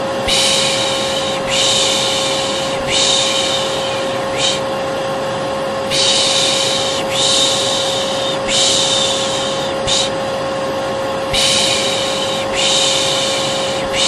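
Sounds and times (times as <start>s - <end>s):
vacuum cleaner humming: 0.0s - 14.0s
person shushing: 0.2s - 4.7s, 5.9s - 10.2s, 11.3s - 14.0s.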